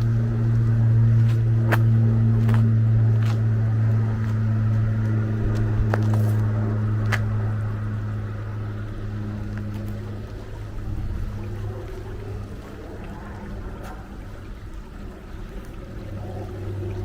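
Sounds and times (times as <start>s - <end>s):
car engine low hum: 0.0s - 17.0s.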